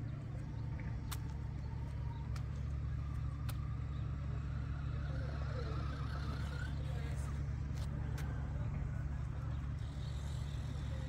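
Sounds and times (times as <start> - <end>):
electric motor and gearbox drone: 0.0 - 11.0.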